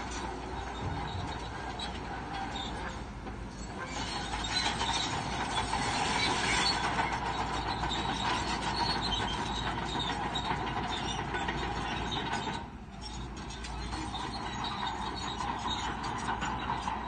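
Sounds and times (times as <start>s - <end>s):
bulldozer engine running: 0.0s - 17.0s
bulldozer tracks clattering: 0.0s - 17.0s.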